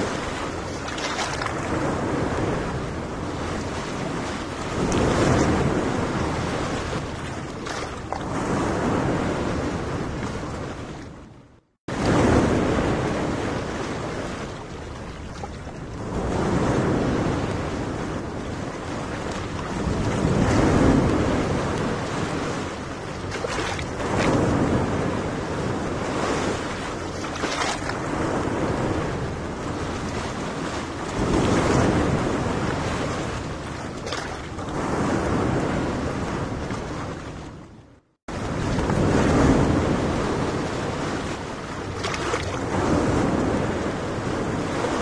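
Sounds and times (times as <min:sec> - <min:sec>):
surf washing onto beach: 0:00.0 - 0:11.1, 0:11.9 - 0:37.6, 0:38.3 - 0:45.0
wind on microphone: 0:00.0 - 0:45.0.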